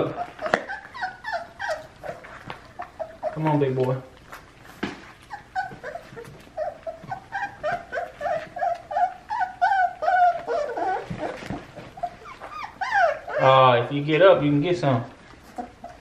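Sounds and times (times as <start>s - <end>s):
puppies whimpering and whining: 0.0s - 14.4s, 15.0s - 16.0s.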